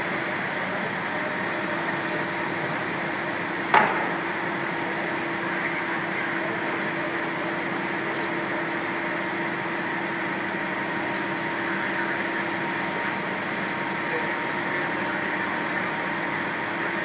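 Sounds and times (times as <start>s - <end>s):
diesel equipment droning: 0.0s - 17.0s.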